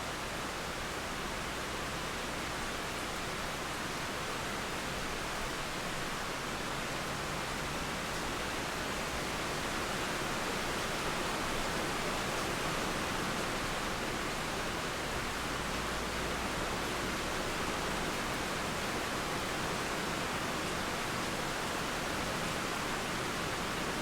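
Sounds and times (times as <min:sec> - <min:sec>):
steady rain: 0:00.0 - 0:24.0
flowing river water: 0:00.1 - 0:24.0.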